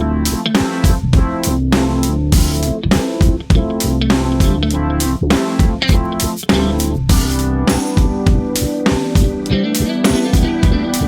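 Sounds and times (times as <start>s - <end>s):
bass guitar: 0.0s - 11.0s
guitar: 0.0s - 11.0s
steady drum beat: 0.0s - 11.0s.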